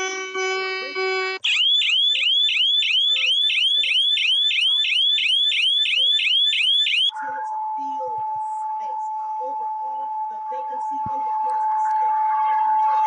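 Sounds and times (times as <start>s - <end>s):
rising alarm chirps: 1.0s - 13.0s.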